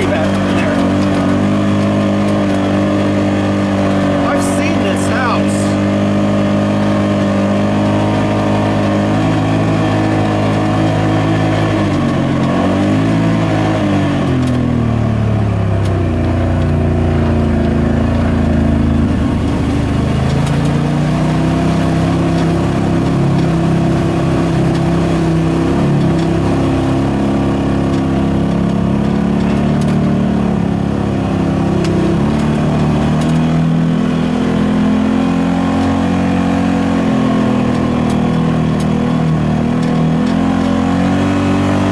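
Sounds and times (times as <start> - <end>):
utility vehicle engine running: 0.0 - 41.9.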